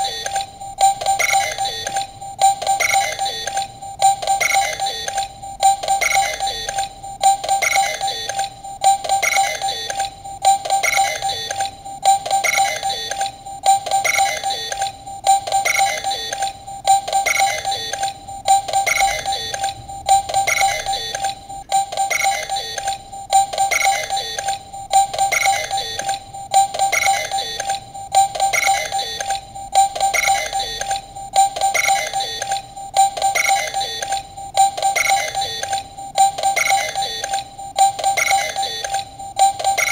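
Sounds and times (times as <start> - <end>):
toy electronic beeping: 0.0 - 39.9.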